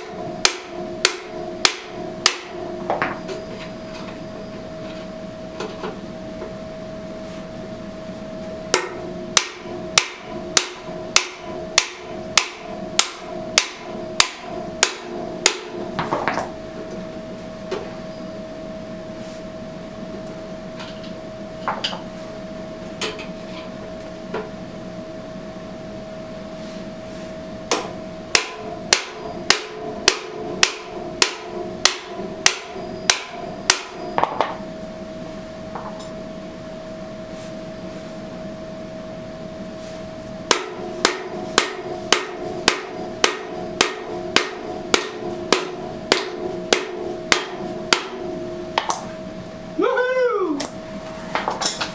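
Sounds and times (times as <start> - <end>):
steady hum: 0.0 - 51.9.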